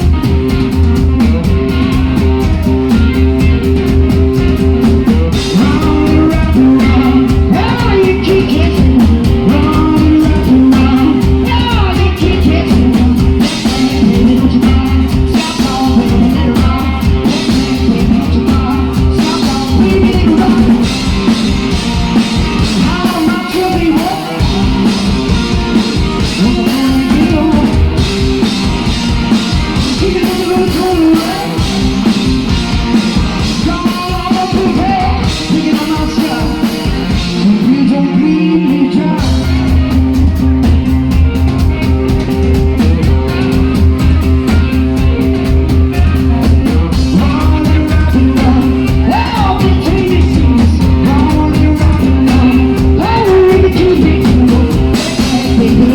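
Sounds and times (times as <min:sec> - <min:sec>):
live rock band playing: 0:00.0 - 0:55.9
person singing: 0:00.0 - 0:55.9.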